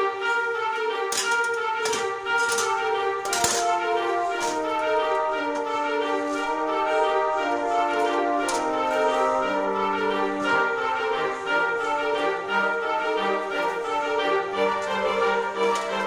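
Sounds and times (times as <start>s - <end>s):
orchestral background music: 0.0s - 16.0s.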